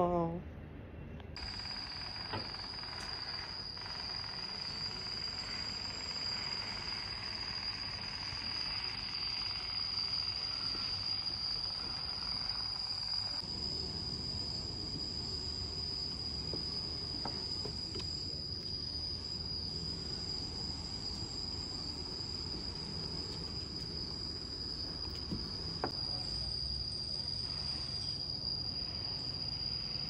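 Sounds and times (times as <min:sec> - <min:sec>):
insects droning: 0:01.3 - 0:30.0.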